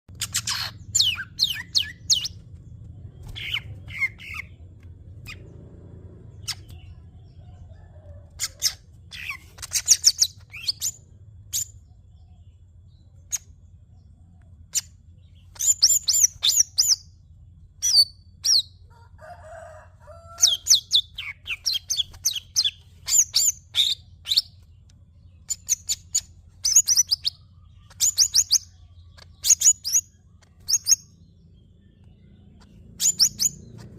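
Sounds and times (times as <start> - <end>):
bird singing high chirps: 0.1 - 33.9
faint low hum: 0.1 - 33.9.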